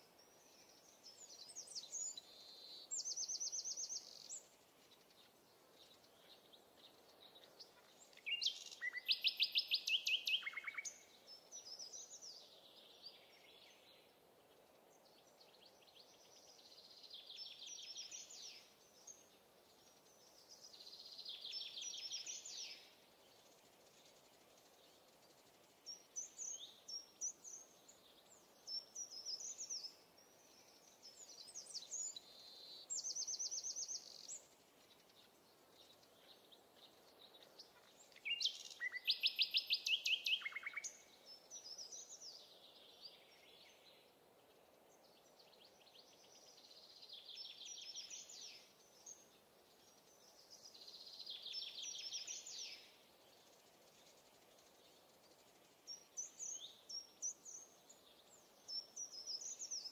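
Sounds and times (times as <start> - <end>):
faint background hiss: 0.0 - 59.9
songbirds singing trills: 0.0 - 59.9.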